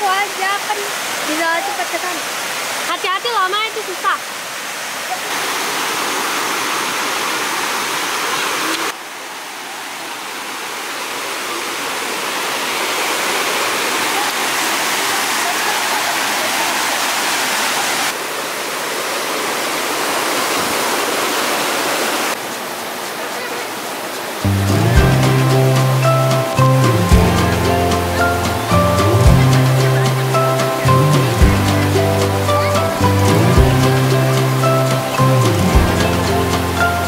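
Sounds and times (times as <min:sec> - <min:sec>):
water rushing over boulders: 0:00.0 - 0:37.0.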